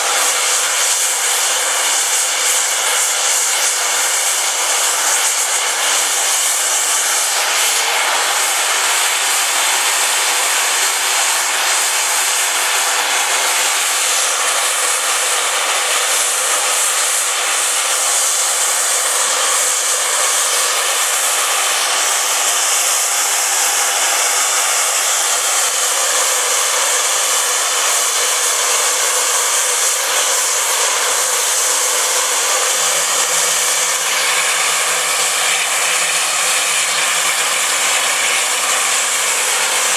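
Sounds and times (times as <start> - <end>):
steam locomotive safety valve hissing: 0.0 - 39.9.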